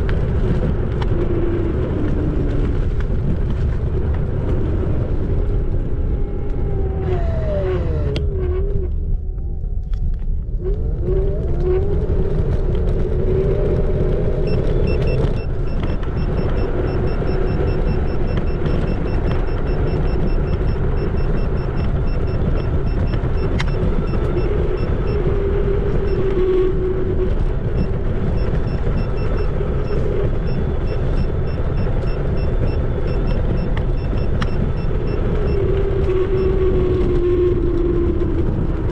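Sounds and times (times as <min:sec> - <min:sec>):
electric scooter motor whine: 0:00.0 - 0:38.9
wind and tyres rumbling on road: 0:00.0 - 0:38.9.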